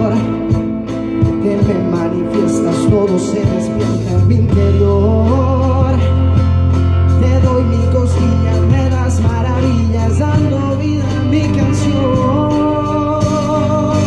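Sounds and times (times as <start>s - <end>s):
guitar: 0.0s - 14.0s
steady held bass: 0.0s - 14.0s.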